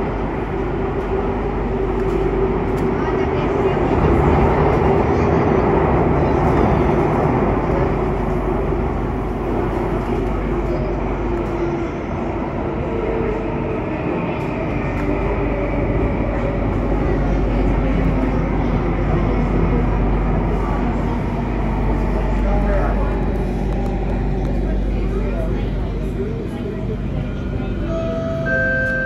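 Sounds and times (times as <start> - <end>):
train rumble in tunnel: 0.0 - 29.0.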